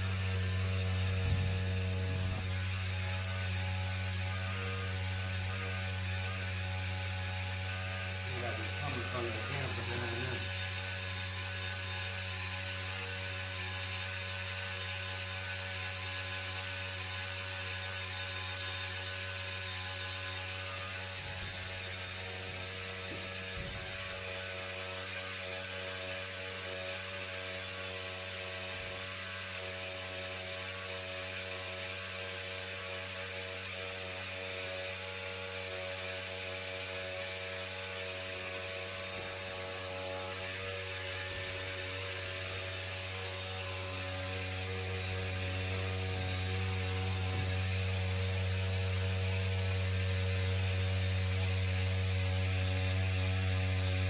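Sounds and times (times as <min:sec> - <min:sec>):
hvac equipment humming: 0:00.0 - 0:54.0.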